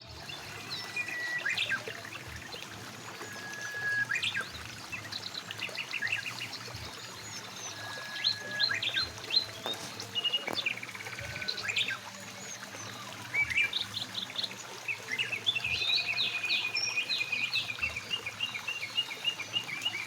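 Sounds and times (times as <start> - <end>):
bird singing: 0.0 - 20.0
river water flowing: 0.0 - 20.0.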